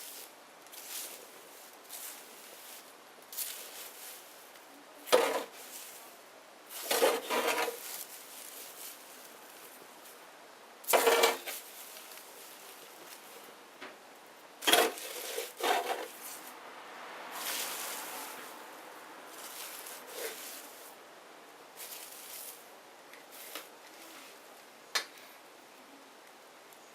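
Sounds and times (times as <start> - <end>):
bonfire crackling: 0.0 - 25.3
faint steady hiss: 0.0 - 26.9
soft rush of noise: 0.0 - 26.9.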